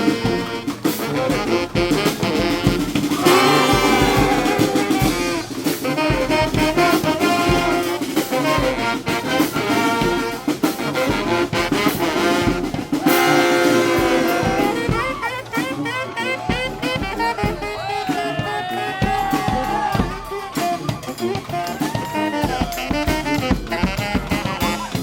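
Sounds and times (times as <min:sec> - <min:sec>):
brass horns playing: 0:00.0 - 0:25.0
steady drum beat: 0:00.0 - 0:25.0.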